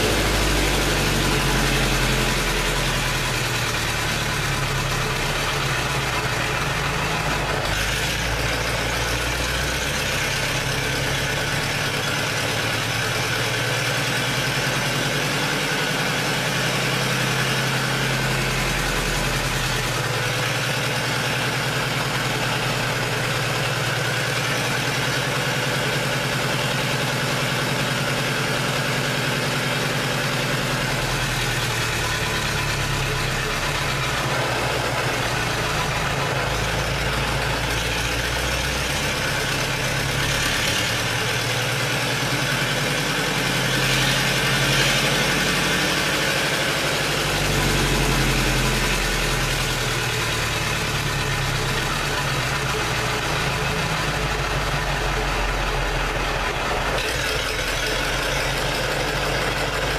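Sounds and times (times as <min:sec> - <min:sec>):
diesel generator engine running: 0:00.0 - 0:59.9.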